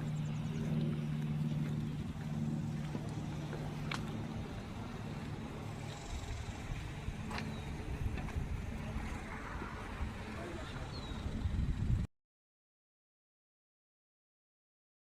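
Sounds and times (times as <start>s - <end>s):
engine hum: 0.0s - 12.1s
outdoor background noise: 0.0s - 12.1s.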